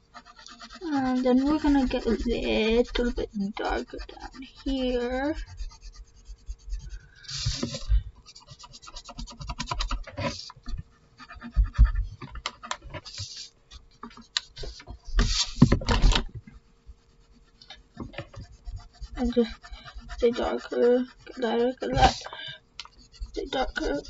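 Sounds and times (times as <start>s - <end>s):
pencil scratching on paper: 0.0s - 16.2s, 16.9s - 24.0s.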